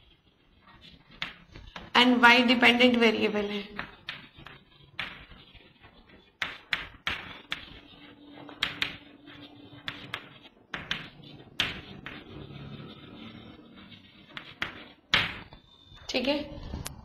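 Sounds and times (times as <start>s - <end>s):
chalk scratching: 0.0s - 15.9s
chalk tapping on chalkboard: 0.2s - 2.0s, 2.8s - 15.6s.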